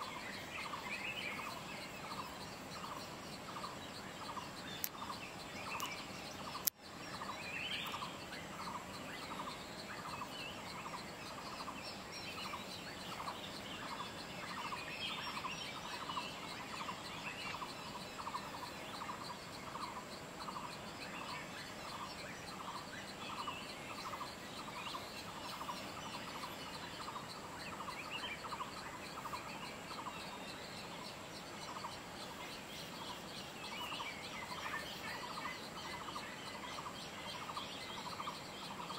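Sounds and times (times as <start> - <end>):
faint chirps of other birds: 0.0 - 38.9
high insect-like whine: 0.0 - 38.9.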